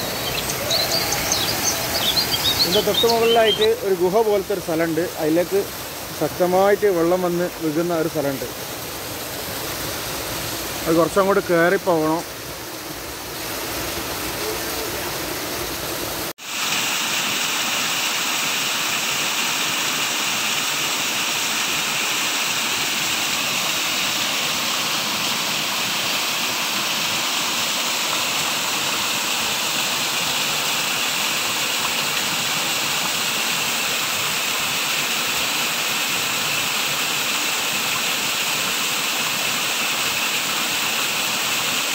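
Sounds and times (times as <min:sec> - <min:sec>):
waterfall splashing onto rocks: 0:00.0 - 0:41.9.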